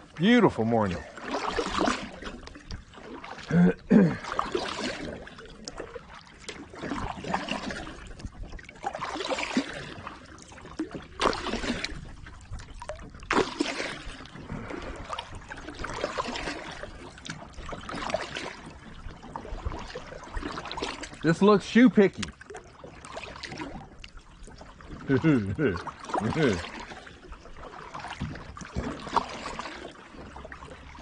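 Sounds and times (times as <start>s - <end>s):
paddle strokes through water: 0.0s - 31.0s.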